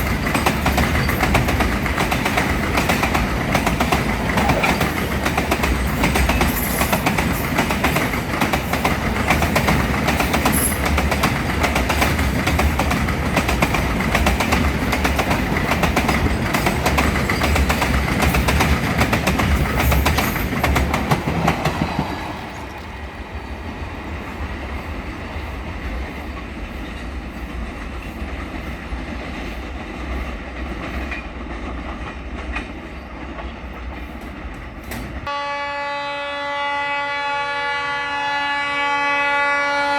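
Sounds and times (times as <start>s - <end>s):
train wheels clattering over rail joints: 0.0s - 22.7s, 24.5s - 35.3s
train rumble: 0.0s - 35.6s.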